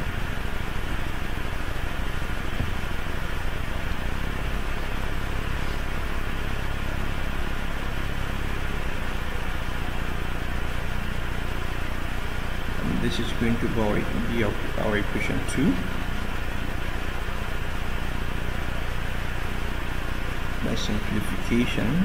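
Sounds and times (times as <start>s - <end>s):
machine humming and hissing: 0.0s - 22.0s.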